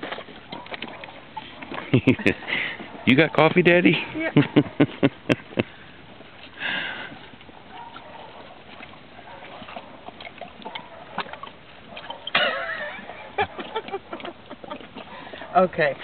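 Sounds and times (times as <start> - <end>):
horse slurping liquid: 0.0 - 16.0.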